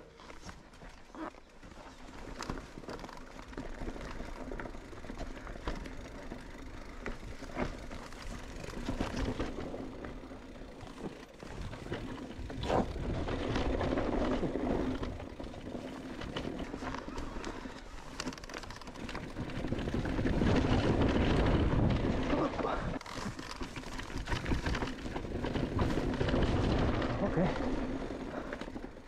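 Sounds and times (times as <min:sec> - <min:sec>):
bike tyres on rough trail: 0:00.0 - 0:29.0
bike rattles and knocks: 0:00.1 - 0:29.0.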